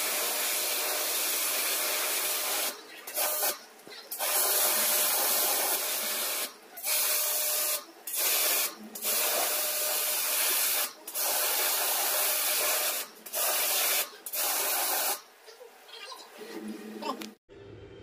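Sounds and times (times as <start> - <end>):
high-pressure water spray hiss: 0.0 - 3.6, 4.2 - 15.2.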